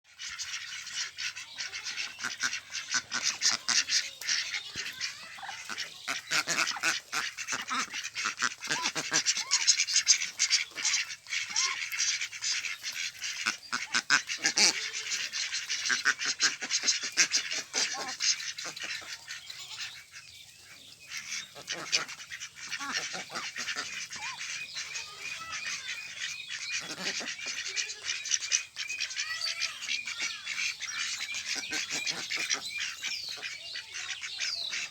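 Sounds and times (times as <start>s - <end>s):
flock of ducks calling: 0.0s - 34.9s.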